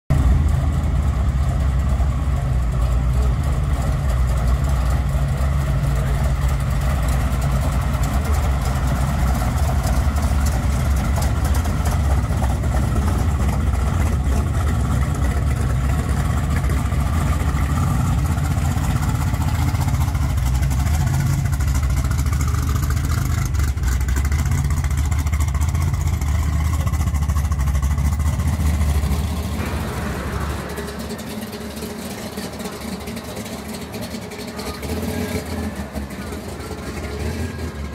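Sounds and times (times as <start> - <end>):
car engines rumbling: 0.0 - 37.9.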